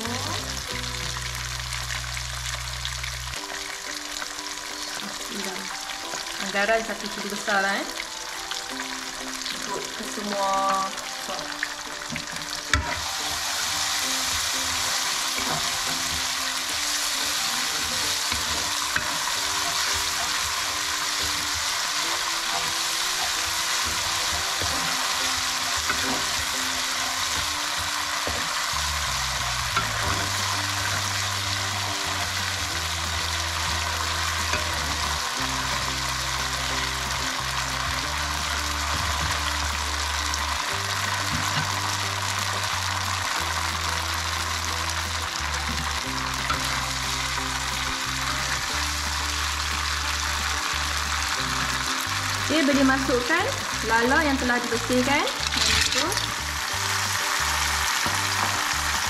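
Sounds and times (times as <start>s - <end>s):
chili paste sizzling in a pan: 0.0s - 59.0s.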